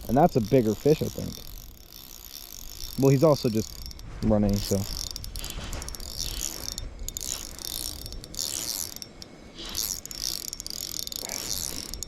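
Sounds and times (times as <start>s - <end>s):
fishing reel clicking: 0.0s - 12.0s.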